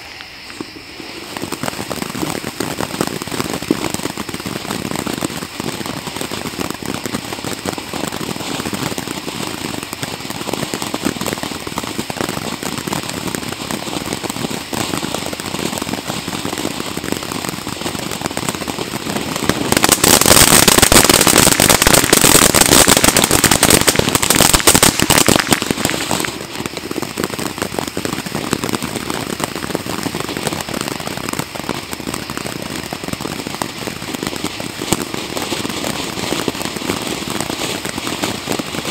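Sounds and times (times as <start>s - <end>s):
firework fountain hissing and crackling: 0.0s - 38.9s.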